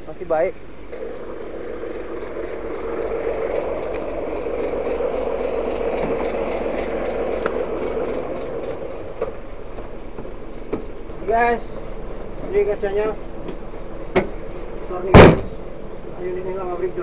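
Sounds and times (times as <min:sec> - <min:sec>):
diesel truck engine running: 0:00.6 - 0:17.0.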